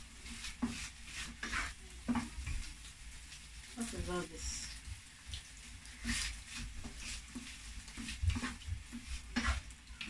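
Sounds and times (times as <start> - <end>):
spatula scraping frying pan: 0.0 - 3.5, 5.4 - 10.0.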